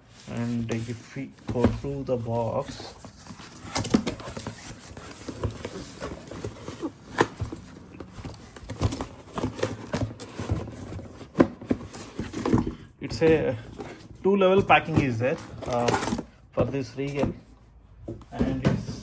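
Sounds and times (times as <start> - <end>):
cardboard box knocks and rustles: 3.1 - 19.0.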